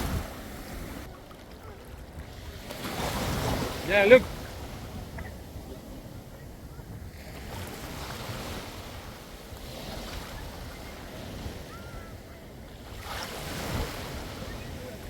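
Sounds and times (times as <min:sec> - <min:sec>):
waves washing onto shore: 0:00.0 - 0:15.0
wind buffeting microphone: 0:00.0 - 0:15.0.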